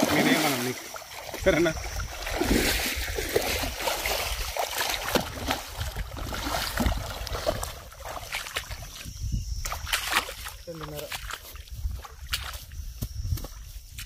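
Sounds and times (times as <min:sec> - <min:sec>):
fish thrashing and splashing: 0:00.0 - 0:12.6.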